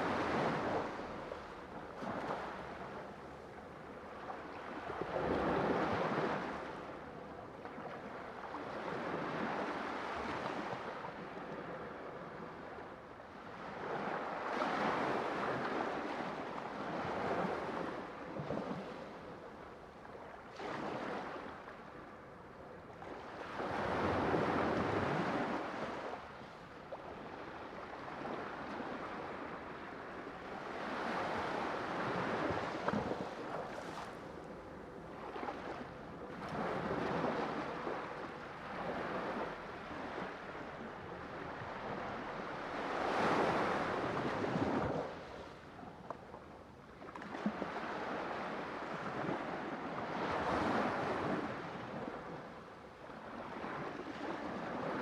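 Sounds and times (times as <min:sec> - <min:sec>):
waves breaking on a shore: 0:00.0 - 0:55.0
wind: 0:00.0 - 0:55.0.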